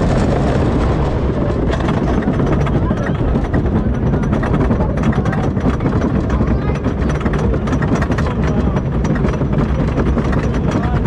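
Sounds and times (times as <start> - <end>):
lift chain rumble: 0.0 - 11.0
rapid clacking of anti-rollback dogs: 1.4 - 11.0.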